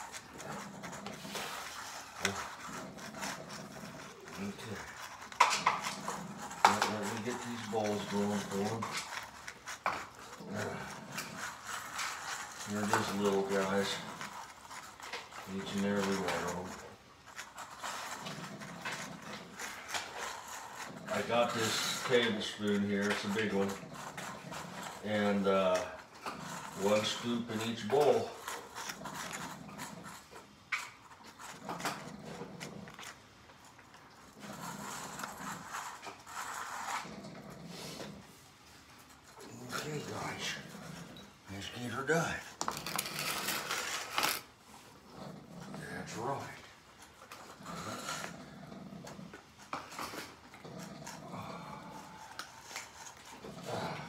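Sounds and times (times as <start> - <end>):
cats eating: 0.0 - 54.0.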